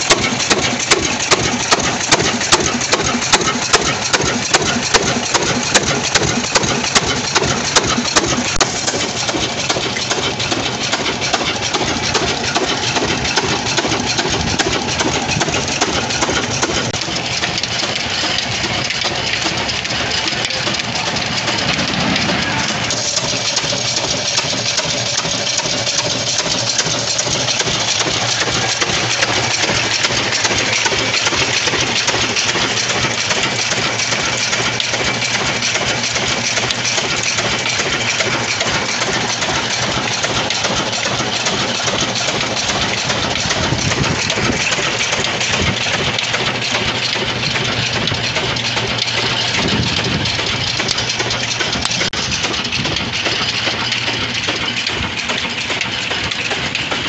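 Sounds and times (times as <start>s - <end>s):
stationary diesel engine running: 0.0s - 57.0s.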